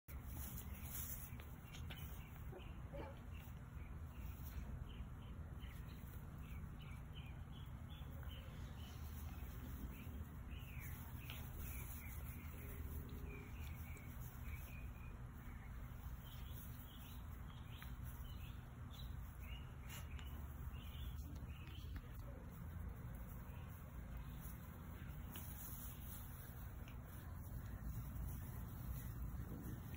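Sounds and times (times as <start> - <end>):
birds chirping: 0.1 - 29.9
faint low rumble: 0.1 - 29.9.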